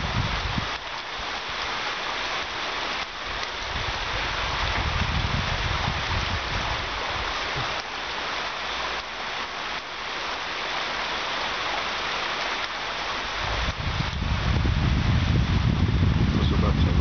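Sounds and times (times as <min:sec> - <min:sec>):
heavy rain on paving: 0:00.0 - 0:17.0.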